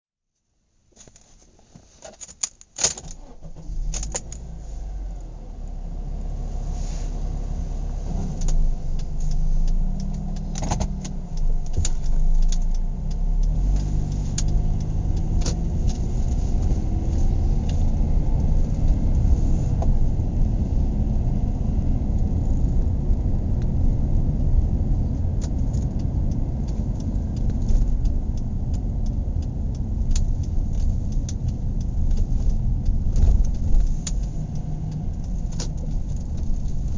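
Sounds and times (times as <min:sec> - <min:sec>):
clicks and rattles in car: 0:00.9 - 0:04.5, 0:08.0 - 0:20.4, 0:22.0 - 0:36.9
car engine rumbling: 0:00.9 - 0:36.9
road noise: 0:01.7 - 0:36.9.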